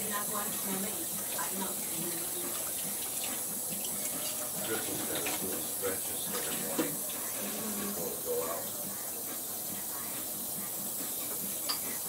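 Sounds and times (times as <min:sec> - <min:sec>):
faint voices: 0:00.0 - 0:12.0
tap water running into sink: 0:00.0 - 0:12.0.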